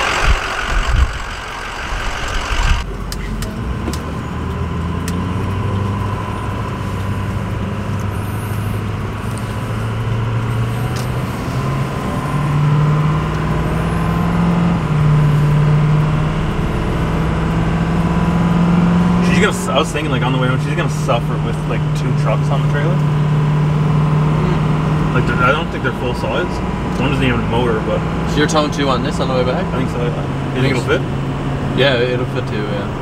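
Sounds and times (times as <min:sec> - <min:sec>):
truck engine droning: 0:00.0 - 0:33.0.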